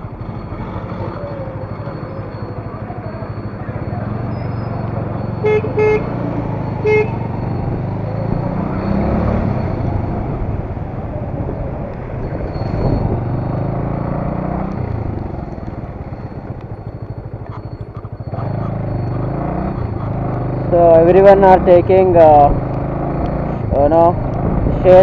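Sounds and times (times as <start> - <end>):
motorcycle engine running: 0.0 - 25.0
horn beeps: 0.2 - 10.8, 12.1 - 22.4.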